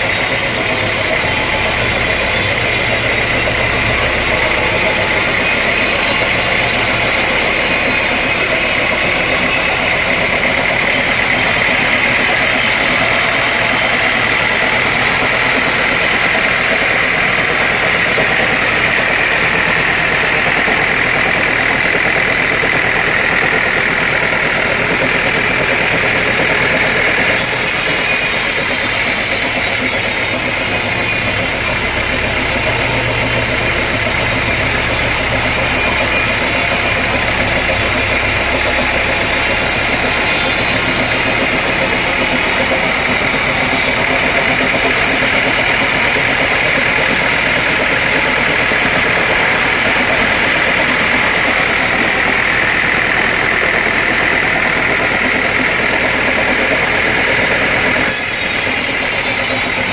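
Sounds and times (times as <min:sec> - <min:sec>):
deep hum: 0:00.0 - 0:27.1, 0:28.6 - 0:55.8
sawmill machinery whining: 0:00.0 - 0:59.9.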